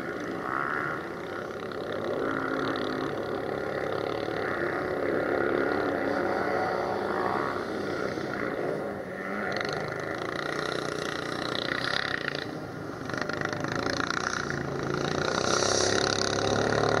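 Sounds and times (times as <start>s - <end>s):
engines revving: 0.0s - 17.0s.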